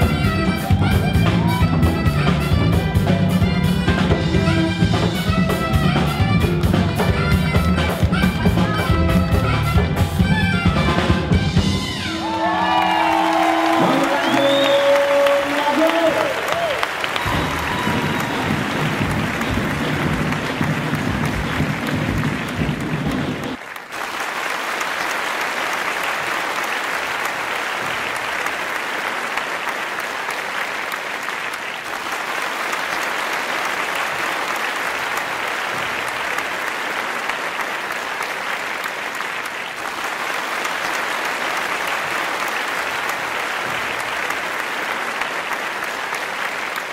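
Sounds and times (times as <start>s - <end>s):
audience applauding: 0.0s - 46.9s.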